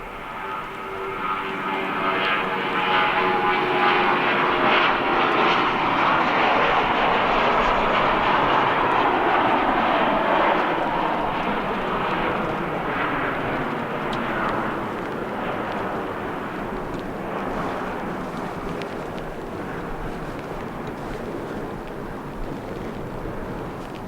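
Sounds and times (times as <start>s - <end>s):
jet airliner engines roaring: 0.0s - 24.0s.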